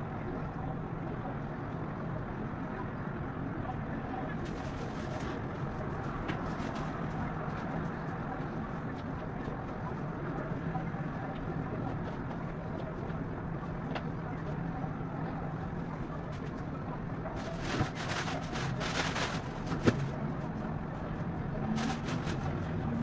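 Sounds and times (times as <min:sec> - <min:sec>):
low traffic hum: 0:00.0 - 0:23.0.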